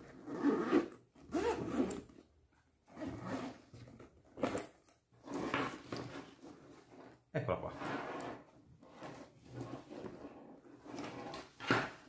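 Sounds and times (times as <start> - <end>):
zipper being pulled: 0.0 - 11.9.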